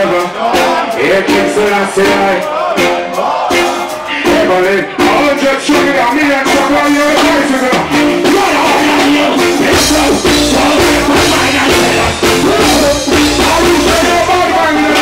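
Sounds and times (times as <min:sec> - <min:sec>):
heavy bass: 0:00.0 - 0:15.0
man singing into a microphone: 0:00.0 - 0:15.0
reggae band playing: 0:00.0 - 0:15.0.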